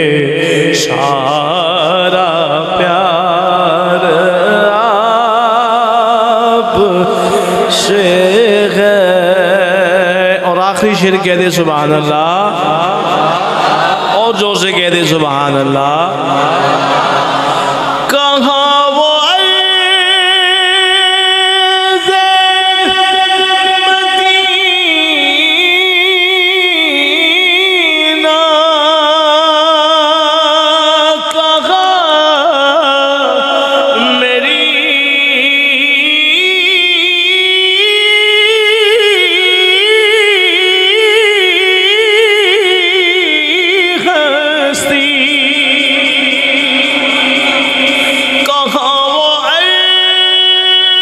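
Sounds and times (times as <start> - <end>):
man singing into a microphone: 0.0 - 51.0.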